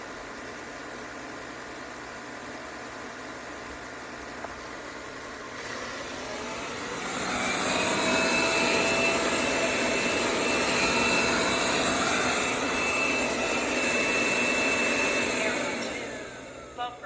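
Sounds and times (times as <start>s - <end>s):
robot vacuum fan whining: 0.0s - 17.0s.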